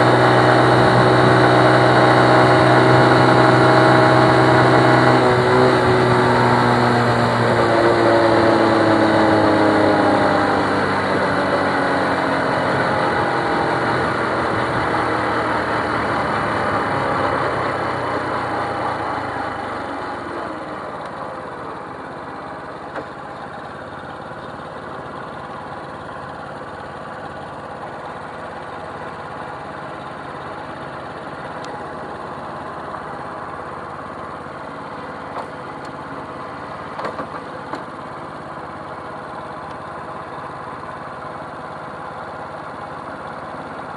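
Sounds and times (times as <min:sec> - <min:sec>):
motorcycle engine slowing: 0:00.0 - 0:43.9
motorcycle engine idling: 0:08.4 - 0:43.9.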